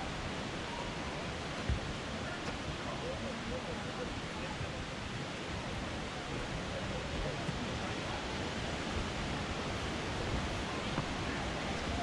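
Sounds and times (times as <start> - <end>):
faint voices: 0.0 - 12.0
flowing water rushing: 0.0 - 12.0.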